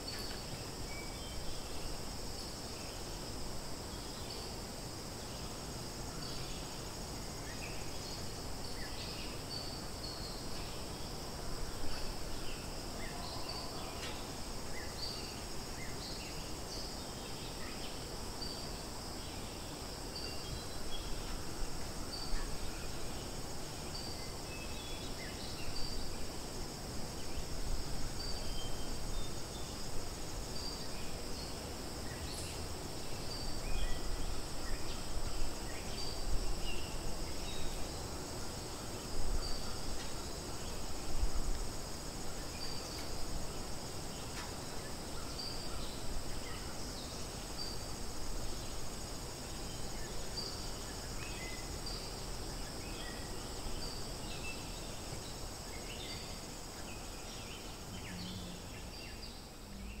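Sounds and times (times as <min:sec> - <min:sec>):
insects droning: 0:00.0 - 1:00.0.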